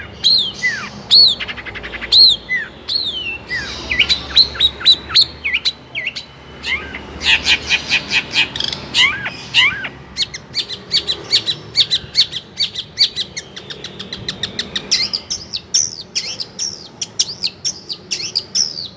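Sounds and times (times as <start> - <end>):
bird singing fast chirps: 0.0 - 18.9.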